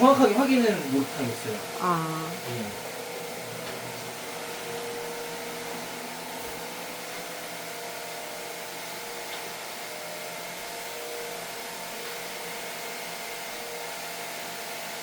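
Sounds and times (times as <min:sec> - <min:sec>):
electric blower whirring: 0:00.0 - 0:15.0.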